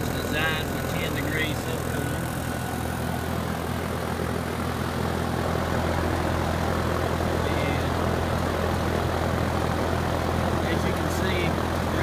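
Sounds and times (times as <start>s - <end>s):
compressor hum: 0.0s - 12.0s
condenser fan rushing: 0.0s - 12.0s.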